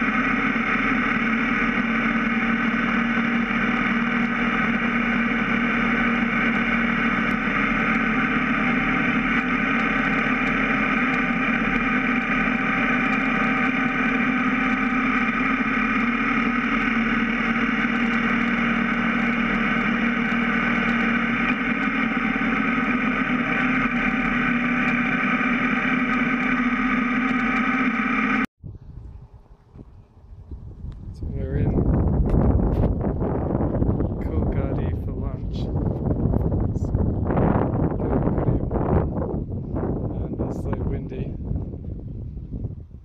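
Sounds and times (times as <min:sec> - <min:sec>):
motorcycle engine drone: 0:00.0 - 0:43.0
wind and road noise: 0:00.0 - 0:43.0.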